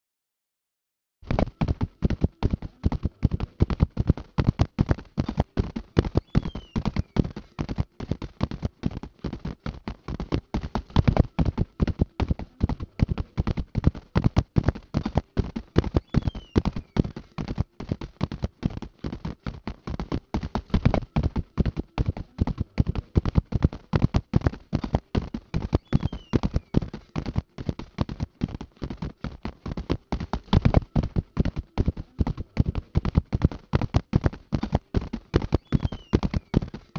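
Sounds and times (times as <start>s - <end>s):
horse hooves galloping: 1.2s - 36.9s.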